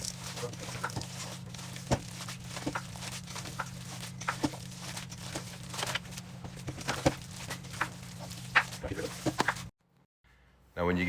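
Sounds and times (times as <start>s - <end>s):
hands squishing raw meat: 0.0s - 9.7s
steady low hum: 0.0s - 9.7s.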